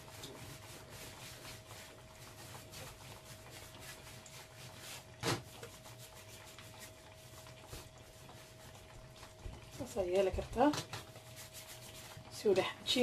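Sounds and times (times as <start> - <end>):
hand rubbing flour on mat: 0.0 - 8.9, 9.8 - 12.7.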